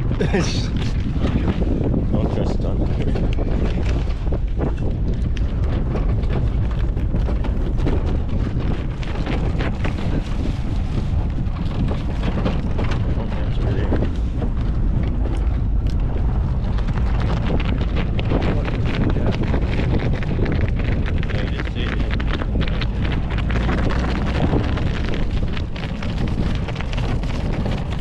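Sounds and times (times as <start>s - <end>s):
truck engine running: 0.0s - 28.0s
wind rumbling on microphone: 0.0s - 28.0s.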